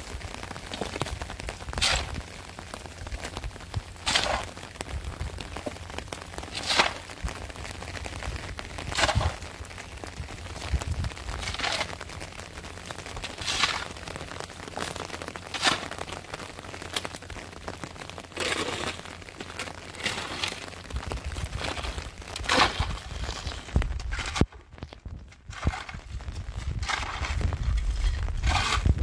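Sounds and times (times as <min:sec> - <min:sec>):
shovel scraping wet gravelly mud: 0:00.0 - 0:17.2, 0:18.0 - 0:29.0.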